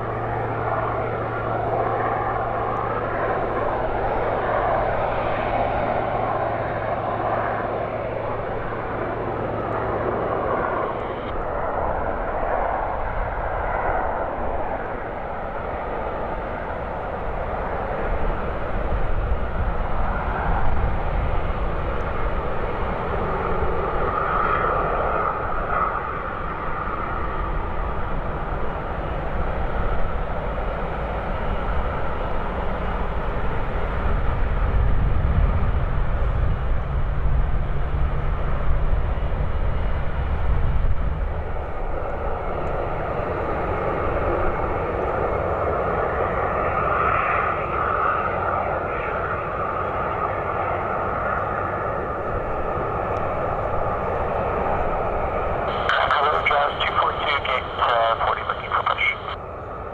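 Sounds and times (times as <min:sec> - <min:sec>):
jet engine roar: 0:00.0 - 0:59.9
jet engine whine: 0:00.0 - 0:59.9.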